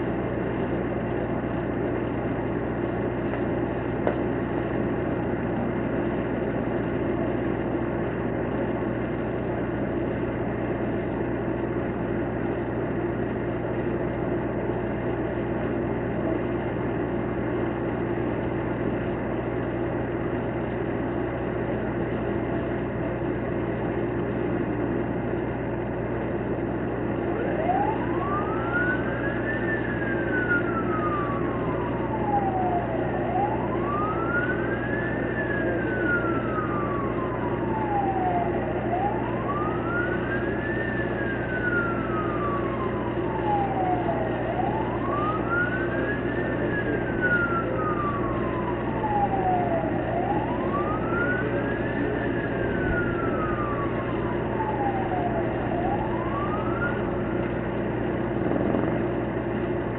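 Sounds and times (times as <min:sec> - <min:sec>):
siren wailing: 0:00.0 - 0:59.9
steady background hum: 0:00.0 - 0:59.9.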